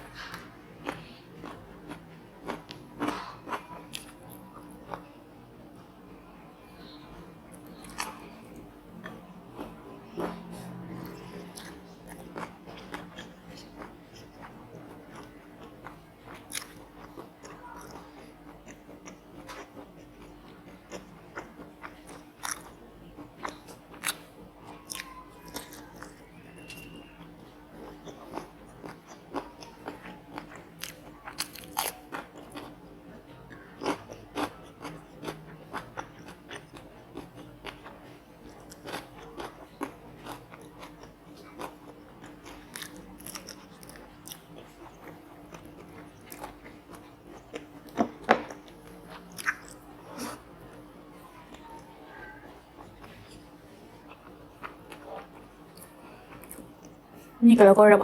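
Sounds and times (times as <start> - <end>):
crunchy chewing of fried food: 0.0 - 57.2
low steady hum: 0.0 - 58.0.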